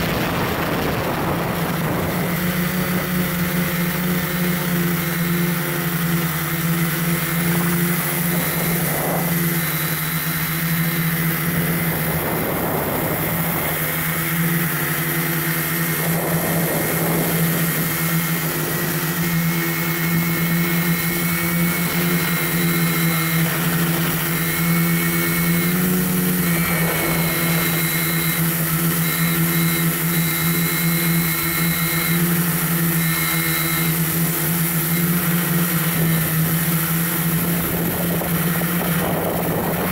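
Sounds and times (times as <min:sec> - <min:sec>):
drone motors humming: 0:00.0 - 0:39.9
wind on microphone: 0:00.0 - 0:39.9.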